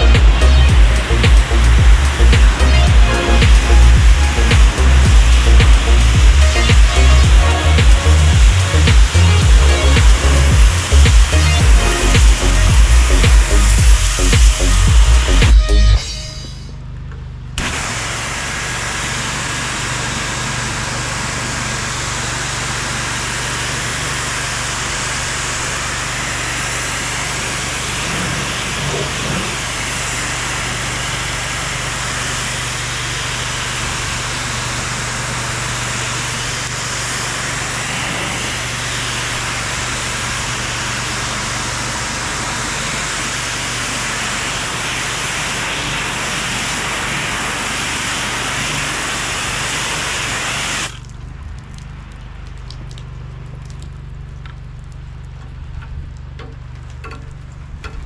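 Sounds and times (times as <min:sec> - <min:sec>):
pressure washer water hiss: 0:00.0 - 0:16.0, 0:17.6 - 0:51.0
engine humming: 0:00.0 - 0:58.0.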